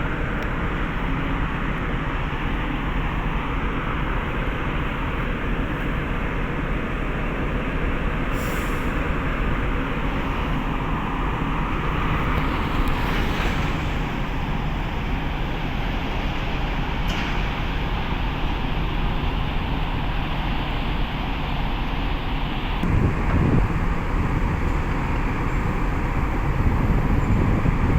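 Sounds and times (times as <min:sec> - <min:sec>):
loud machinery rumble: 0:00.0 - 0:20.3, 0:22.7 - 0:27.9.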